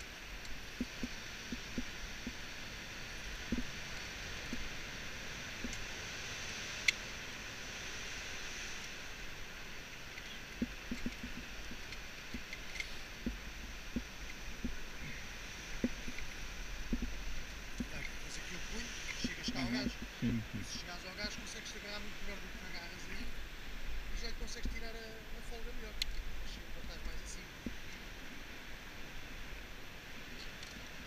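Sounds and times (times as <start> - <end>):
outdoor hiss: 0.0 - 31.0
wind rumbling on microphone: 0.0 - 31.0.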